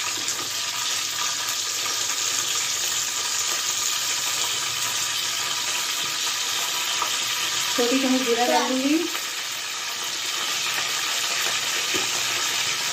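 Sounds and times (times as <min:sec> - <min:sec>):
leaves sizzling in hot oil: 0:00.0 - 0:12.9.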